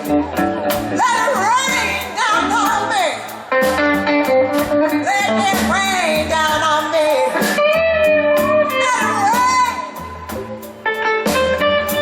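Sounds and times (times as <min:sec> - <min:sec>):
live blues band playing: 0:00.0 - 0:12.0.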